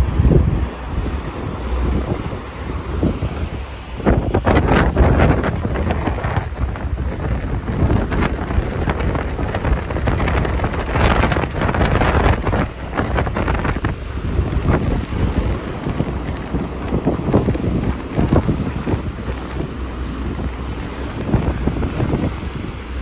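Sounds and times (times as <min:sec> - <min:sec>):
low rumble: 0:00.0 - 0:23.0
water rushing: 0:00.0 - 0:23.0
wind buffeting microphone: 0:00.0 - 0:23.0.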